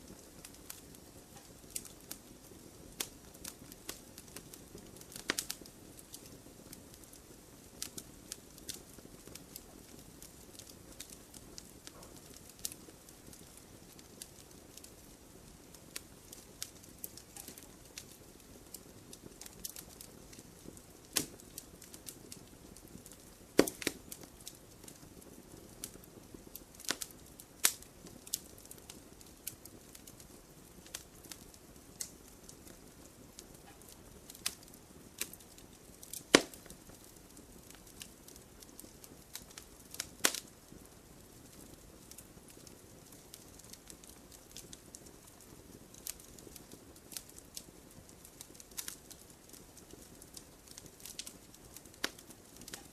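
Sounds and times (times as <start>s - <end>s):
campfire crackling and popping: 0.0s - 52.9s
low steady hiss: 0.0s - 52.9s.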